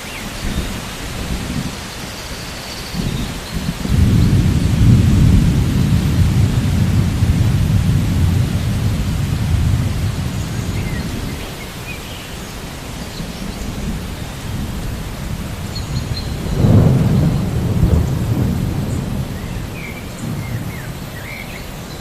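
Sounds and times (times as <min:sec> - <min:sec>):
steady rain: 0:00.0 - 0:22.0
thunder rumbling: 0:00.4 - 0:21.8.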